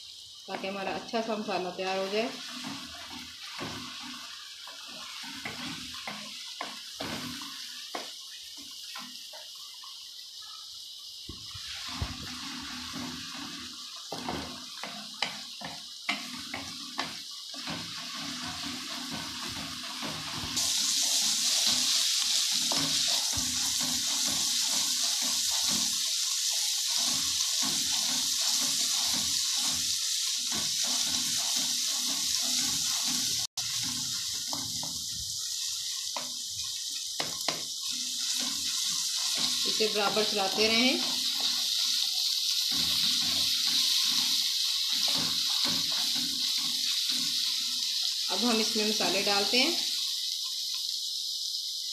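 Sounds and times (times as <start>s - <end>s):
onions sizzling in hot oil: 0.0s - 51.9s.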